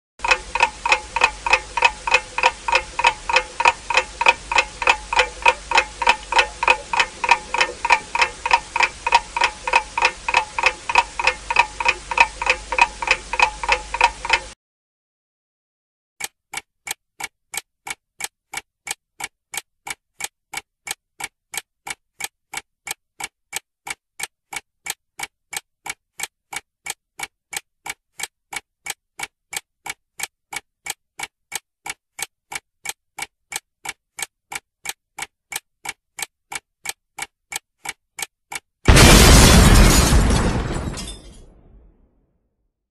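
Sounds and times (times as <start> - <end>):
clock ticking: 0.2 - 14.6, 16.2 - 40.2.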